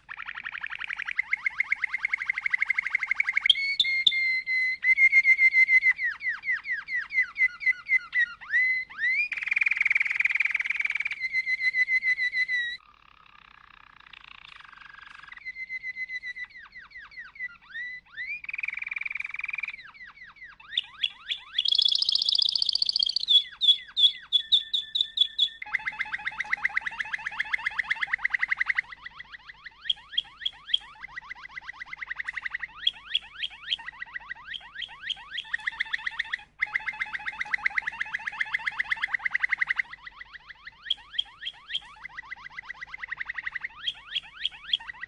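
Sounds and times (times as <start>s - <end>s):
canary singing trills: 0.0s - 45.0s.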